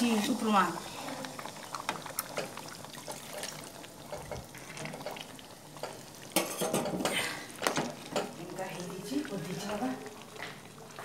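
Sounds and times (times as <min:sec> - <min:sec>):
curry sizzling: 0:00.0 - 0:11.0.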